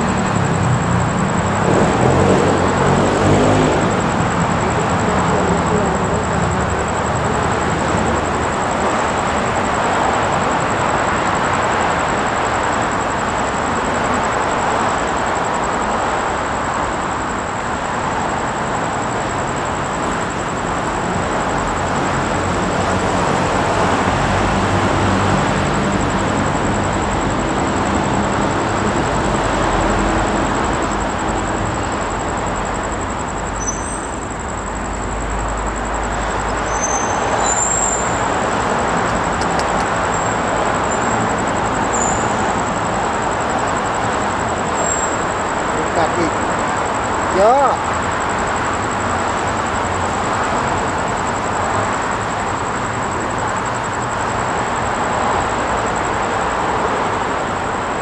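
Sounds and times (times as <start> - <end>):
vehicle rumble: 0.0 - 58.0.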